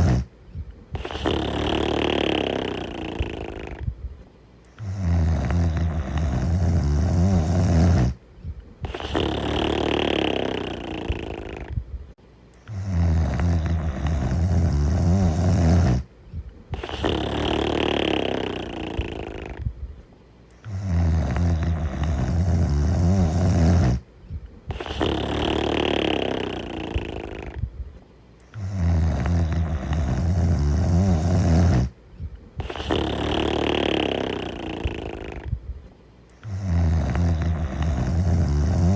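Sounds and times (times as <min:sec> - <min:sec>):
loud snoring: 0:00.0 - 0:00.3, 0:00.9 - 0:03.9, 0:04.7 - 0:08.2, 0:08.8 - 0:11.8, 0:12.6 - 0:16.1, 0:16.7 - 0:19.7, 0:20.6 - 0:24.1, 0:24.7 - 0:27.7, 0:28.5 - 0:32.0, 0:32.6 - 0:35.6, 0:36.4 - 0:38.9.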